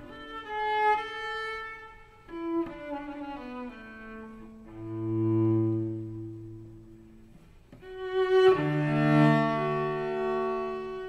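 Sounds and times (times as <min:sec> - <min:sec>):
slow classical string music: 0:00.0 - 0:11.0.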